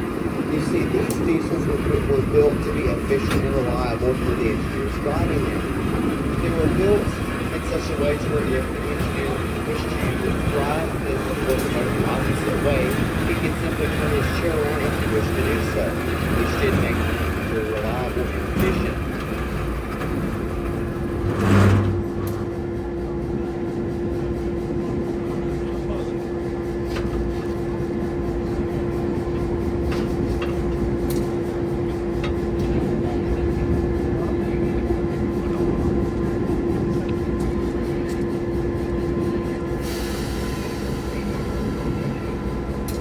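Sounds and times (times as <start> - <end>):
diesel locomotive idling: 0.0 - 43.0.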